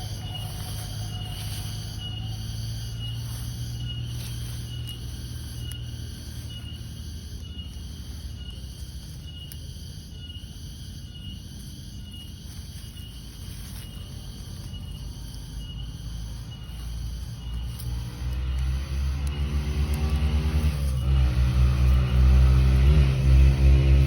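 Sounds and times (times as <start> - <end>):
low rumble: 0.0 - 23.8
cricket chirping: 0.0 - 24.0.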